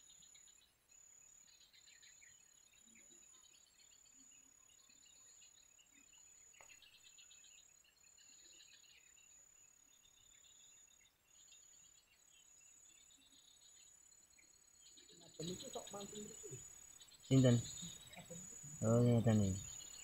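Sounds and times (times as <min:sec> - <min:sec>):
birds chirping: 0:00.0 - 0:20.0
faint insects chirping: 0:00.0 - 0:20.0
high-pitched insect trill: 0:00.0 - 0:20.0.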